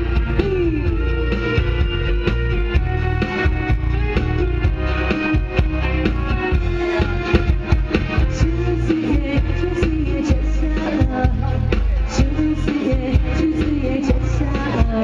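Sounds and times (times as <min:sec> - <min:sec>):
music with plucked guitar-like parts: 0:00.0 - 0:15.0.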